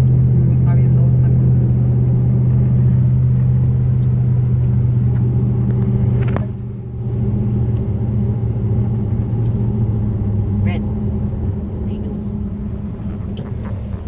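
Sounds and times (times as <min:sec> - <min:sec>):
car engine and road drone: 0:00.0 - 0:14.0.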